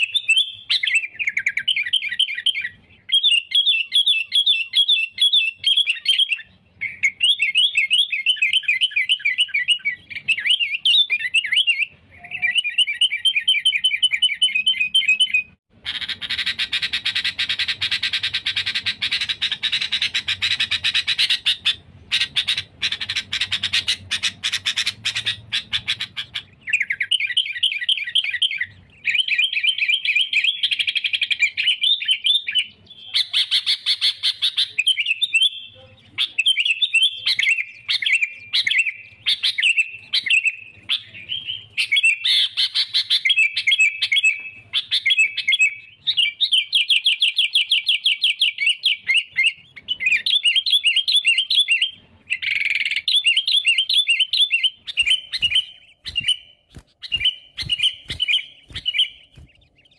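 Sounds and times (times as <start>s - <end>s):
bulbul singing: 0.0s - 59.9s.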